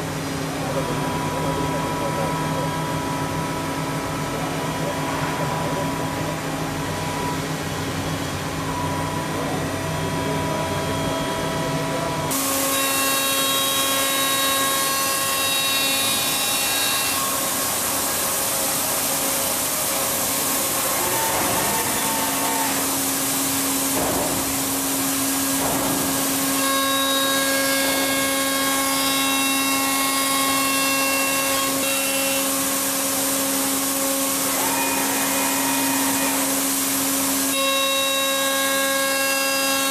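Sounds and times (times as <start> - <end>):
milling machine spindle whine: 0.0 - 39.9.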